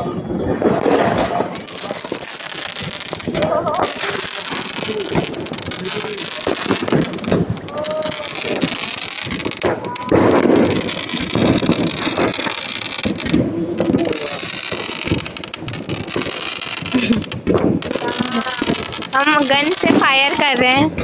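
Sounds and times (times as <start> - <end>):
faint voices: 0.0 - 21.0
wind buffeting microphone: 0.0 - 21.0
background crackle: 0.4 - 21.0.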